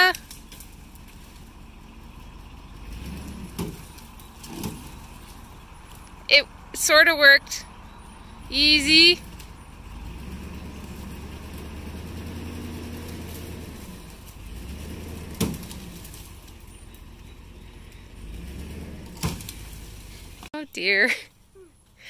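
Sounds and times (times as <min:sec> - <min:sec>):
truck engine under load: 0:00.0 - 0:22.0.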